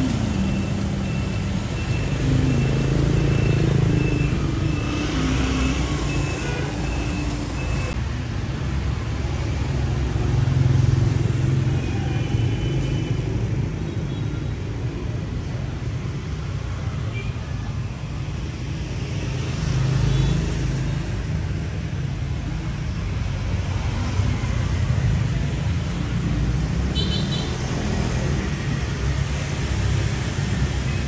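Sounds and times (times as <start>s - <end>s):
motorbike and car engines passing: 0.0s - 13.9s, 18.4s - 31.0s.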